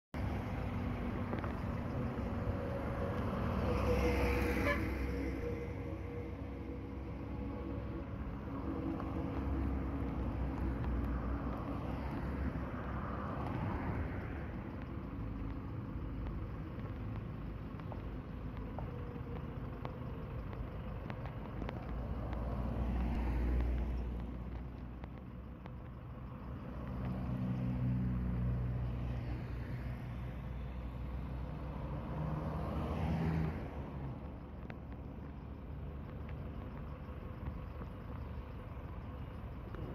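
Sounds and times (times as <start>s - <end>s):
minibus engine rumbling: 0.1s - 39.9s.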